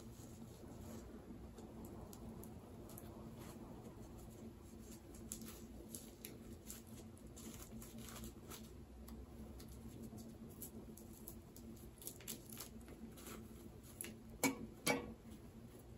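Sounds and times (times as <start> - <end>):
packing material crinkling: 0.0 - 14.3
faint steady hum: 0.0 - 15.9.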